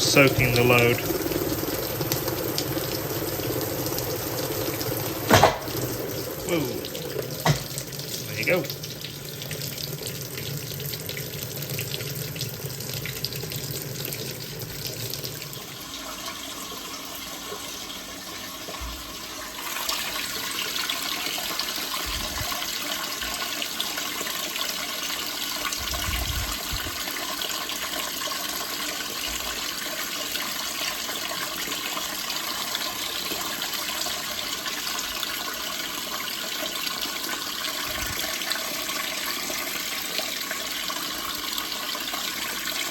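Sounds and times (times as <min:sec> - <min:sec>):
water splashing in washing machine: 0:00.0 - 0:42.9.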